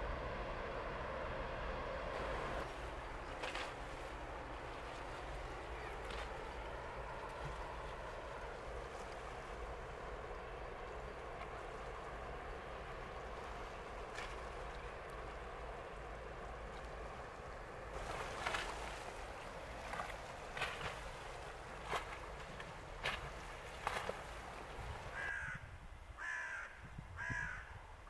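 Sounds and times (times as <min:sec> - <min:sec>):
ship rumble and wash: 0:00.0 - 0:26.2.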